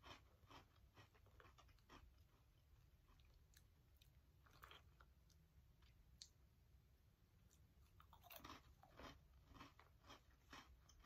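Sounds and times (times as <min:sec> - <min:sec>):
faint crunching of crisp biscuits: 0:00.0 - 0:06.6, 0:07.3 - 0:11.0.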